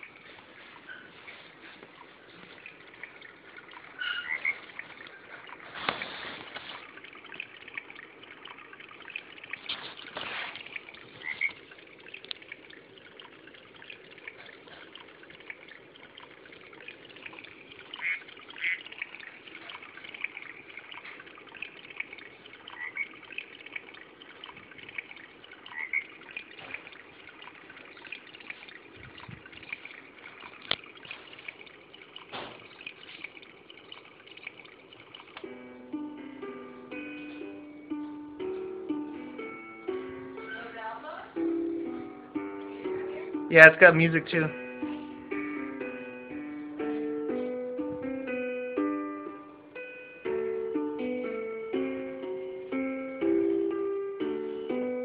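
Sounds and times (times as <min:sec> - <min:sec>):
running water from small speaker: 0:00.0 - 0:55.0.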